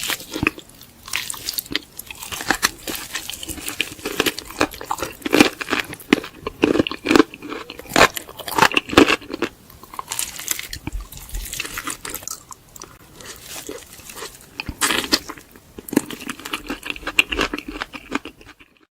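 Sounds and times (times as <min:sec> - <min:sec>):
crunching fried chicken: 0:00.0 - 0:18.9.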